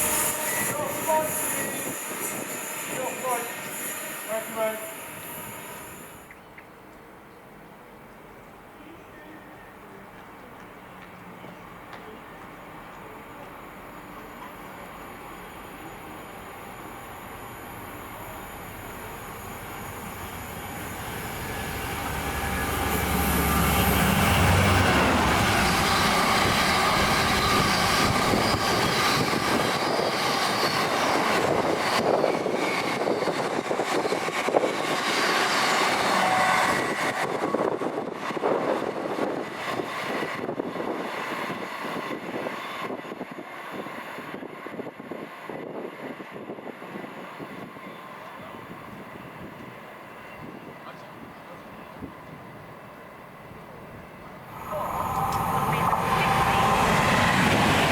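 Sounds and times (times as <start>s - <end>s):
train rumbling past: 0.0s - 8.8s, 9.4s - 57.9s.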